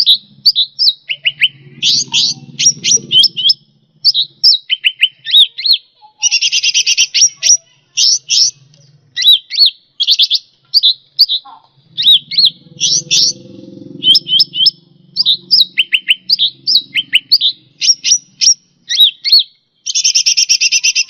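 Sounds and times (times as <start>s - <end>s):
songbird singing chirps and whistles: 0.0s - 21.0s.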